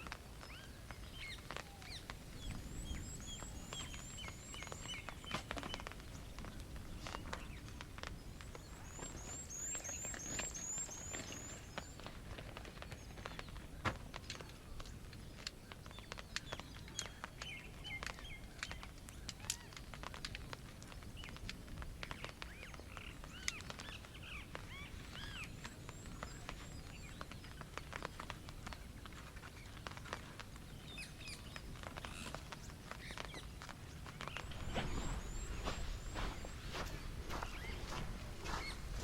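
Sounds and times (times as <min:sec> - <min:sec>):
small clicks and snaps: 0:00.0 - 0:34.6
small birds chirping: 0:00.0 - 0:39.0.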